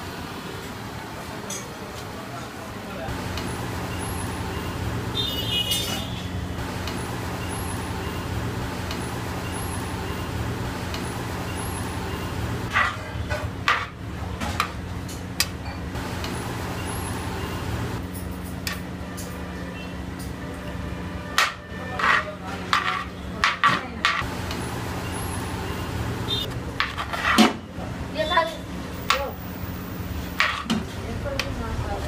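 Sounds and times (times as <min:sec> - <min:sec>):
cooking burner rumble and hum: 0:00.0 - 0:32.0.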